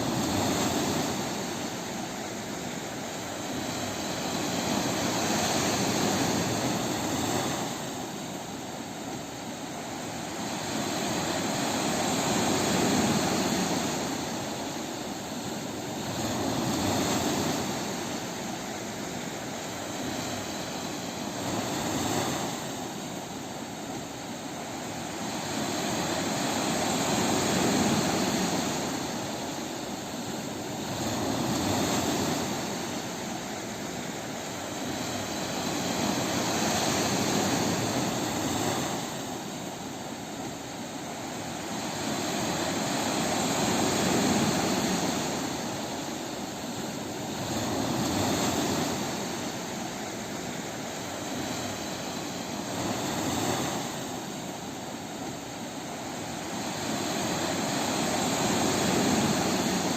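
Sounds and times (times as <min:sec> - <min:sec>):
ocean waves breaking on a beach: 0:00.0 - 0:59.9.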